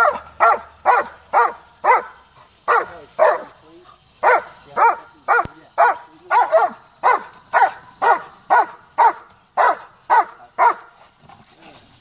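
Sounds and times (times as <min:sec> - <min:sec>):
dog barking: 0:00.0 - 0:03.5, 0:04.2 - 0:10.9.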